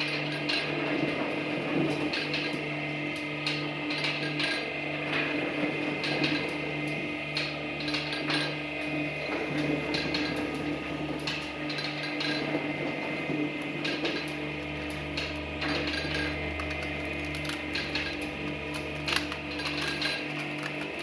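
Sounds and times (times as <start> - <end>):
shredder motor humming: 0.0 - 21.0.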